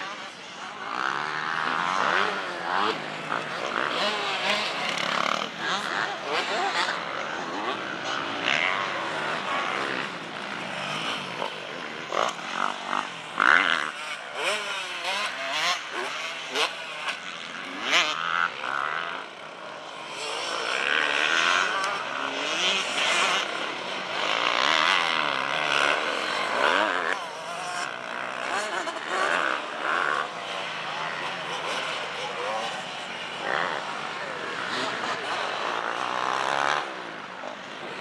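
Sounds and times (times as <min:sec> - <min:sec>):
motocross bike engines revving: 0:00.0 - 0:38.0.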